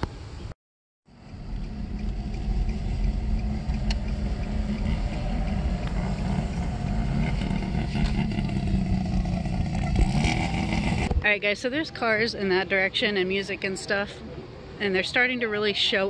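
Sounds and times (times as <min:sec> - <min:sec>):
vehicle engine rumbling: 0:01.1 - 0:15.1.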